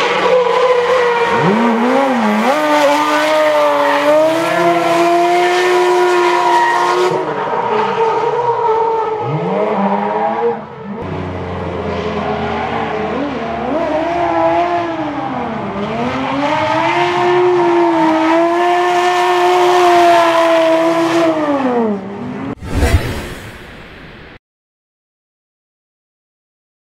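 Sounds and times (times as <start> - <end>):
car engines at high revs: 0.0 - 22.8.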